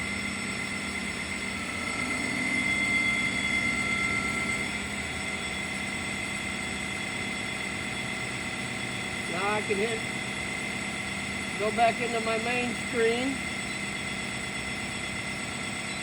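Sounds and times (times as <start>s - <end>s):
sawmill whining: 0.0s - 16.0s.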